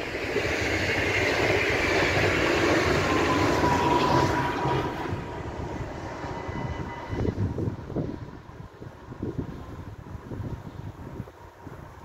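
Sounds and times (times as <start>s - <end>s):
train rushing past on rails: 0.0s - 12.0s.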